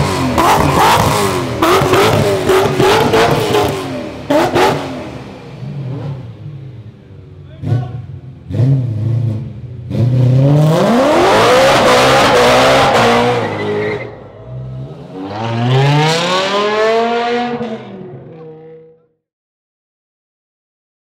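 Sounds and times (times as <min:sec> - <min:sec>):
car engine accelerating hard: 0:00.0 - 0:06.8, 0:07.6 - 0:18.9.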